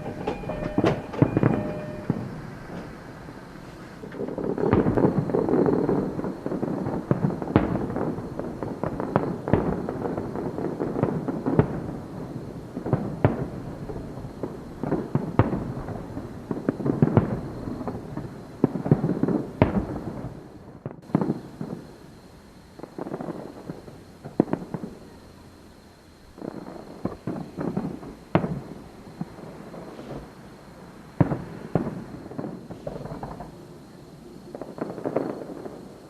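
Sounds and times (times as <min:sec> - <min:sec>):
fireworks bursting with sharp bangs: 0:00.0 - 0:36.0
fireworks crackle and rumble: 0:00.0 - 0:36.0.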